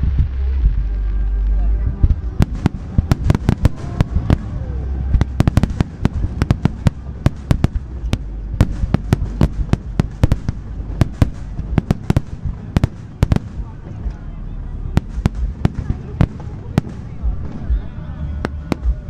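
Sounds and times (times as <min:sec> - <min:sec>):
fireworks bangs and cracks: 0:00.0 - 0:19.0
low rumble: 0:00.0 - 0:19.0.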